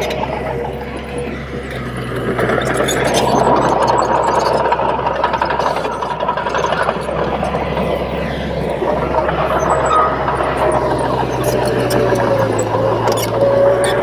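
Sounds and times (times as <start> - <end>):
bulldozer diesel engine: 0.0 - 14.0
faint whine sliding down: 0.0 - 14.0
machinery clatter: 0.0 - 14.0.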